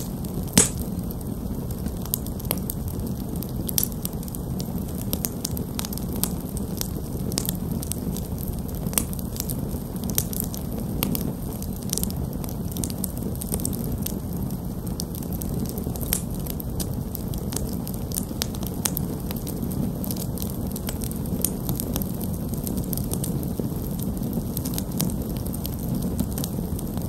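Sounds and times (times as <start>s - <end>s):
campfire crackling and popping: 0.0s - 27.0s
low noise of flames: 0.0s - 27.0s.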